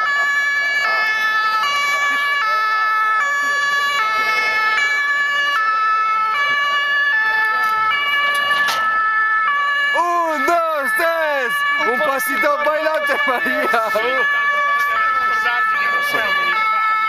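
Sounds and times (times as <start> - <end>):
two-tone ambulance siren: 0.0 - 17.0.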